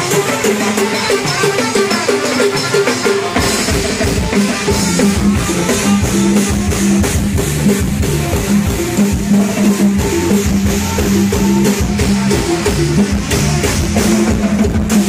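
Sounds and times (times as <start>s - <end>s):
held horn notes: 0.0s - 14.3s
brass band playing: 0.0s - 15.0s
drum kit beat: 0.0s - 15.0s.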